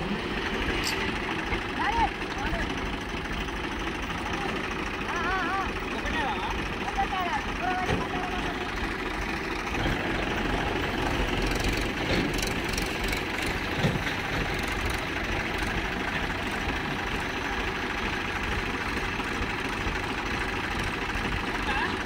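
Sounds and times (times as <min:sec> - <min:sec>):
diesel tractor engines idling: 0:00.0 - 0:22.0.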